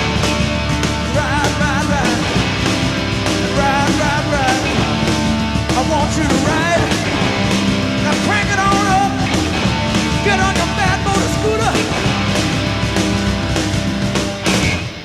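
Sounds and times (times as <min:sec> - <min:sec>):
electric guitar: 0:00.0 - 0:15.0
rock song with singing: 0:00.0 - 0:15.0.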